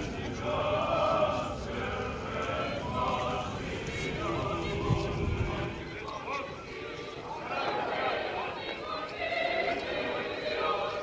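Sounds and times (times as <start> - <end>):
group of voices chanting: 0.0 - 11.0.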